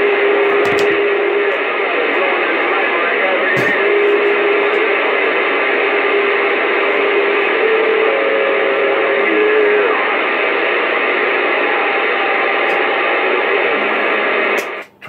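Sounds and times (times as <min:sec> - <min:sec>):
radio static: 0:00.0 - 0:15.0.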